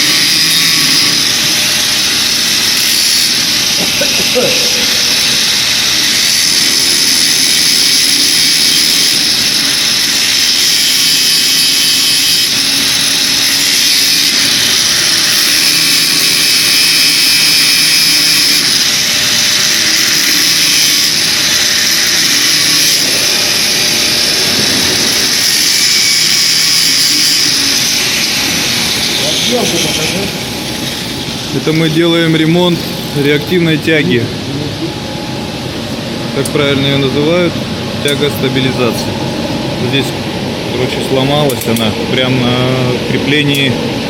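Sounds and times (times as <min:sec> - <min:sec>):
loud machine noise with hiss: 0:00.0 - 0:44.0.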